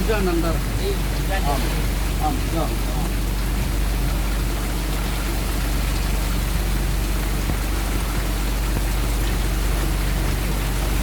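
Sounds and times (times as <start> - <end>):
low steady hum: 0.0 - 11.0
rain falling steadily: 0.0 - 11.0.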